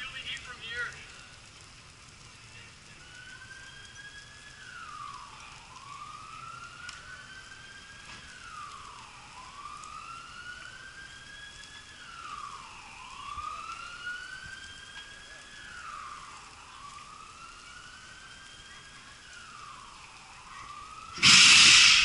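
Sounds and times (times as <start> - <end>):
emergency siren wailing: 0.0 - 22.0.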